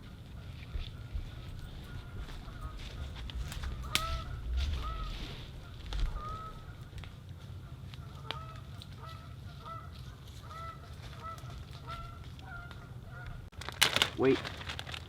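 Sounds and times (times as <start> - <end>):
geese honking: 0.0 - 13.5.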